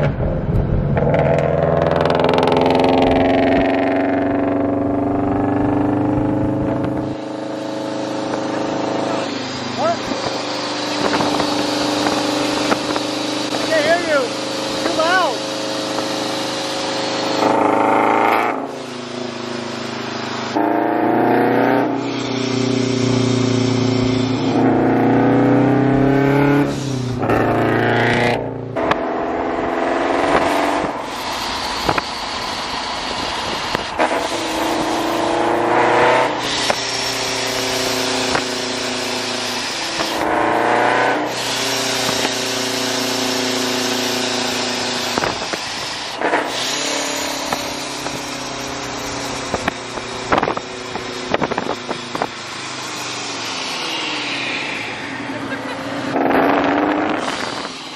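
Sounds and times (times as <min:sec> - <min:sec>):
car engine revving through gears: 0:00.0 - 0:57.9.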